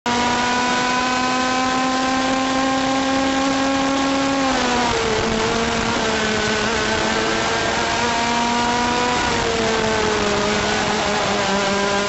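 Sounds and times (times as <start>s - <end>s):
kart engine at high revs: 0.1s - 12.0s.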